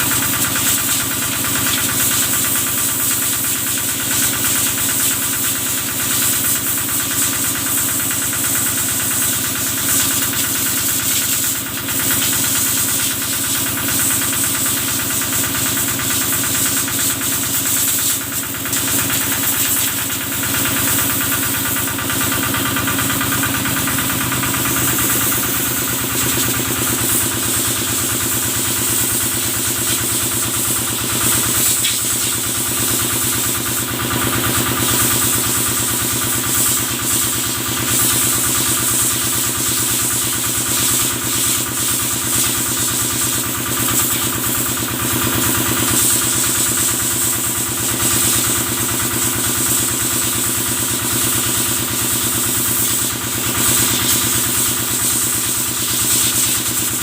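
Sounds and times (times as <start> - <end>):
engine knocking steadily: 0.0 - 57.0
hiss of spraying water: 0.0 - 57.0.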